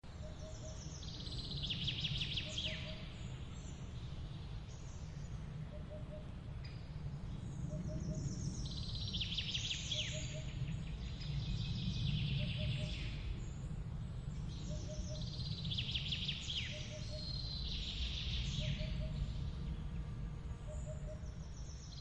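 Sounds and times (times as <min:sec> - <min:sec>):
songbirds trilling: 0:00.0 - 0:22.0
steady low rumble: 0:00.0 - 0:22.0.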